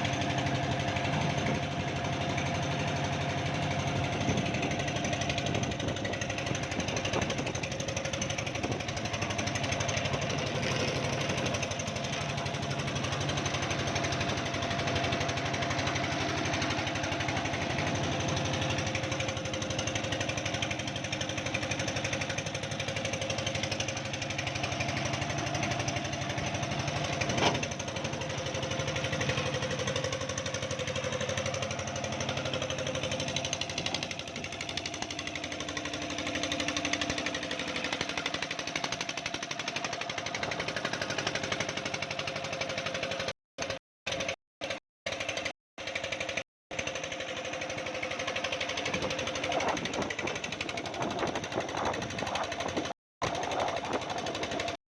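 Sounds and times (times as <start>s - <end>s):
concrete mixer engine running: 0.0s - 54.8s.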